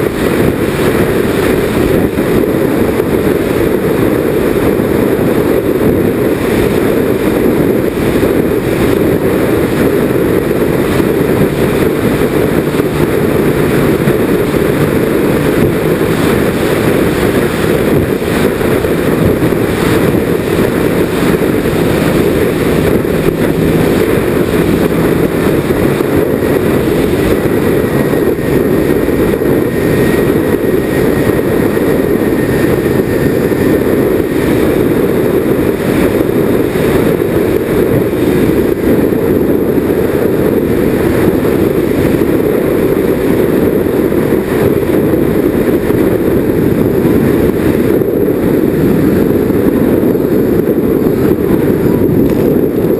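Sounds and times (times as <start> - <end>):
model airplane engines rushing: 0.0 - 52.9.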